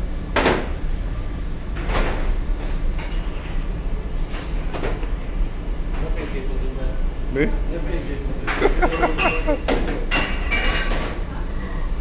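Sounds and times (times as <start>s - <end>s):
ventilation low rumble: 0.0s - 10.1s.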